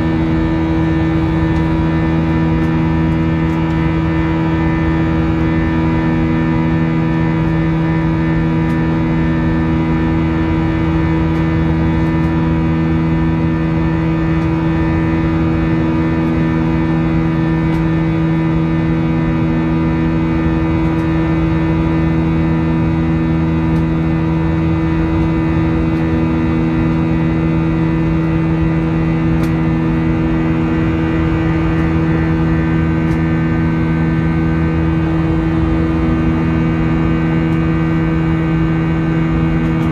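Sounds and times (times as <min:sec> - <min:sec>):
jet airliner cabin drone: 0:00.0 - 0:39.9.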